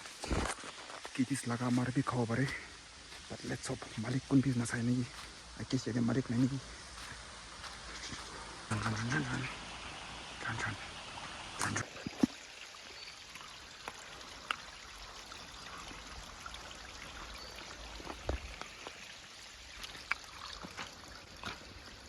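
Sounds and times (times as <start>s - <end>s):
water washing: 0.0s - 22.0s.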